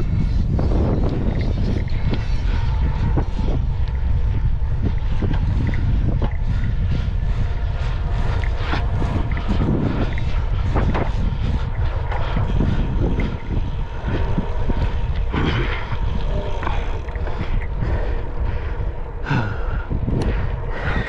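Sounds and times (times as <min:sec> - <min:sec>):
bicycle rattles and knocks: 0:00.0 - 0:21.0
wind buffeting microphone: 0:00.0 - 0:21.0.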